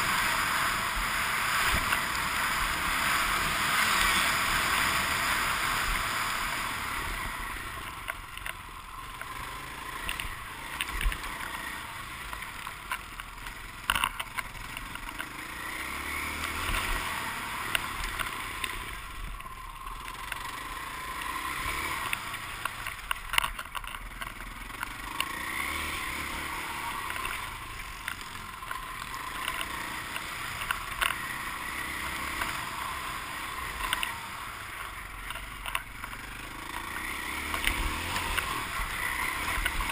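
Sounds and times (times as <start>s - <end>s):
motocross bike engine revving: 0.0s - 7.9s, 9.0s - 23.0s, 24.4s - 39.9s.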